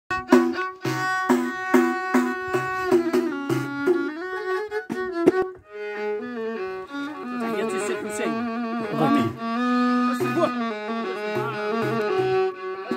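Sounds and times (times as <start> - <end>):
violin bowing melody: 0.1 - 12.9.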